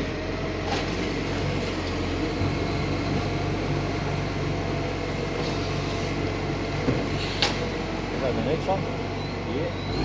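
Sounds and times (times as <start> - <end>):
garbage truck engine droning: 0.0 - 10.0.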